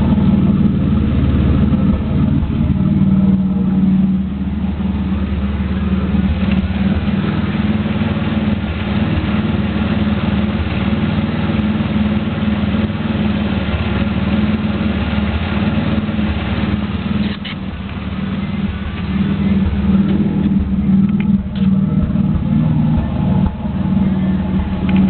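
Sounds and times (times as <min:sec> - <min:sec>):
car engine idling with misfires: 0:00.0 - 0:25.0.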